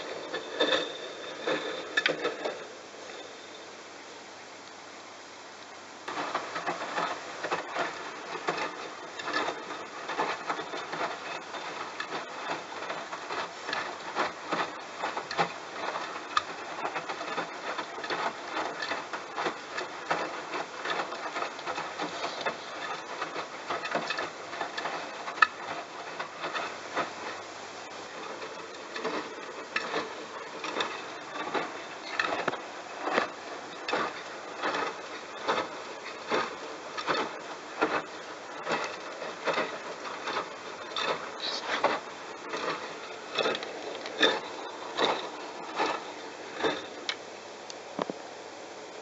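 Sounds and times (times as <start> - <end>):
washing machine drum turning: 6.1 - 47.1.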